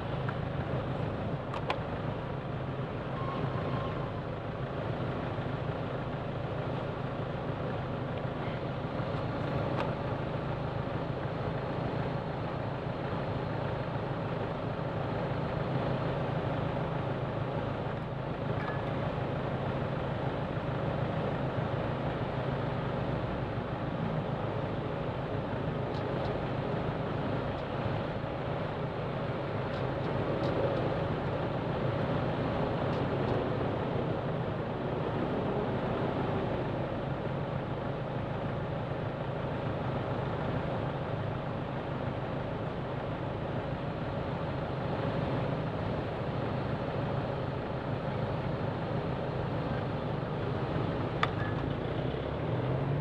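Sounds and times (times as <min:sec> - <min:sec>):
road and wind noise: 0:00.0 - 0:53.0.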